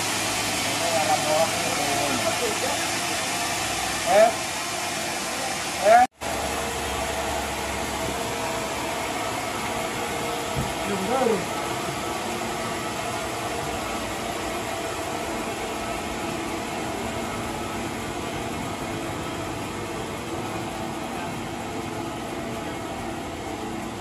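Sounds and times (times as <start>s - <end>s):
sawmill machinery hissing: 0.0s - 24.0s.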